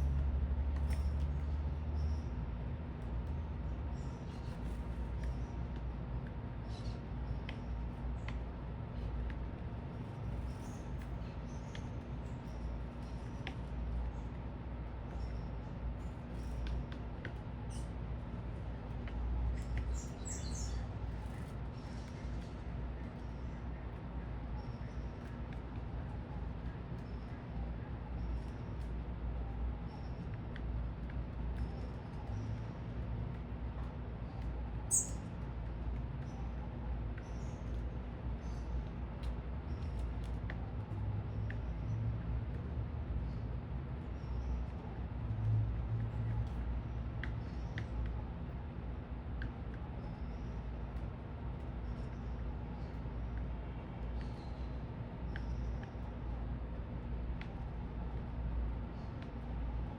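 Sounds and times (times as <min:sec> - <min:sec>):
city traffic rumble: 0:00.0 - 0:59.9
small birds chirping: 0:00.8 - 0:42.6, 0:43.2 - 0:45.3, 0:46.0 - 0:59.9.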